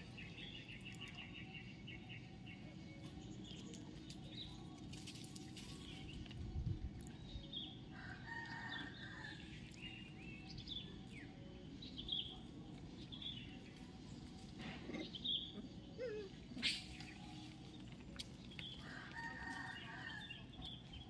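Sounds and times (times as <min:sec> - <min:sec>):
birds chirping: 0:00.0 - 0:21.0
low background noise: 0:00.0 - 0:21.0.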